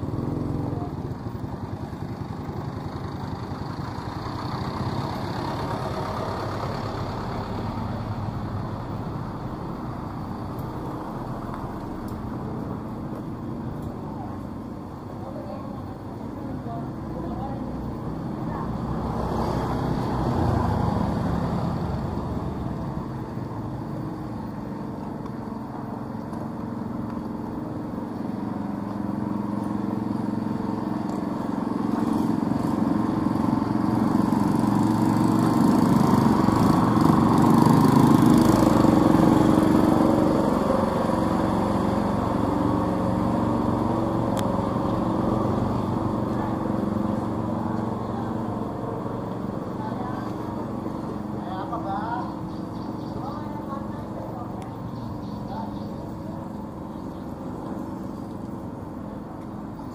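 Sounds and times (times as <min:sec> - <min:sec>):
motorcycle passing close: 0:00.0 - 0:59.9
small motorcycle engines running: 0:00.0 - 0:59.9.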